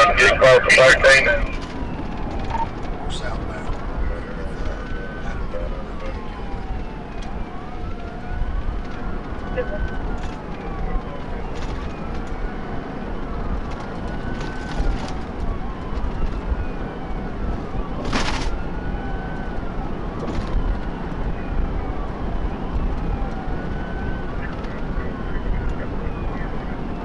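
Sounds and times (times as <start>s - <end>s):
car road and engine noise: 0.0s - 27.0s
police siren wailing: 0.0s - 27.0s.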